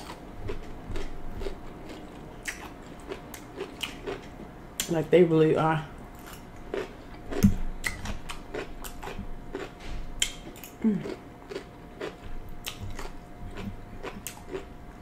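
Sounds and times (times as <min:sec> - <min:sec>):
crunchy chewing of cucumber: 0:00.0 - 0:04.9, 0:06.1 - 0:15.0
faint steady hum: 0:00.0 - 0:15.0.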